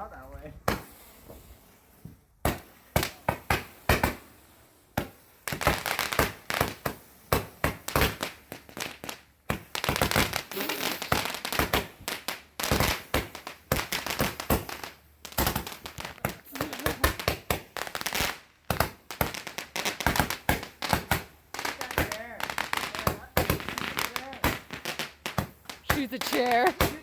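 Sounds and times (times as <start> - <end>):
fireworks bangs and cracks: 0.6 - 27.0.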